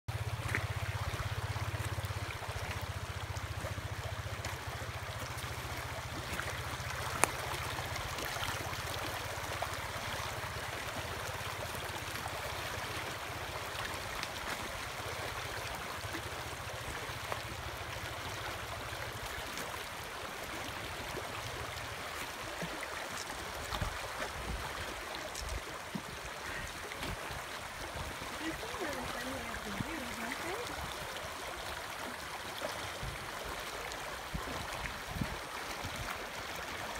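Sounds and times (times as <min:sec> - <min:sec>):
creek running over stones: 0:00.1 - 0:36.9.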